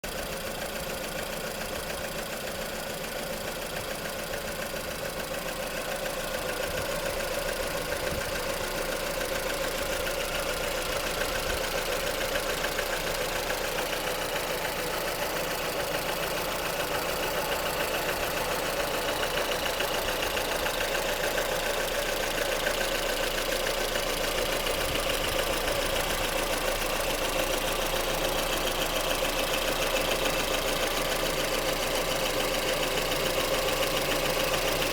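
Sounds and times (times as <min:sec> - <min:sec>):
car engine idling with knocking: 0:00.0 - 0:34.9.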